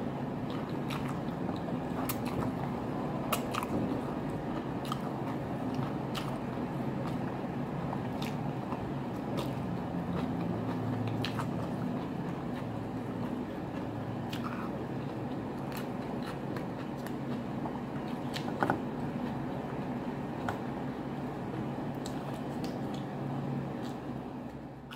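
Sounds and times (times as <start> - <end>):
chewing and biting food: 0.4 - 24.6.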